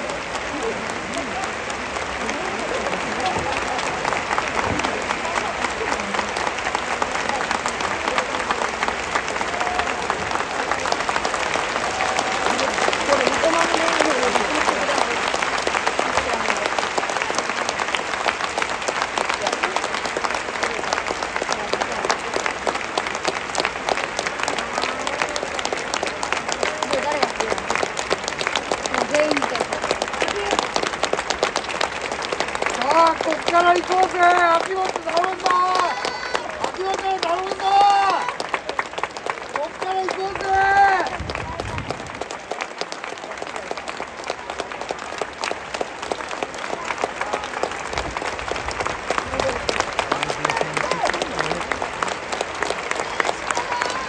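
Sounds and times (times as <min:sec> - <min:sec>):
crowd clapping: 0:00.0 - 0:54.0.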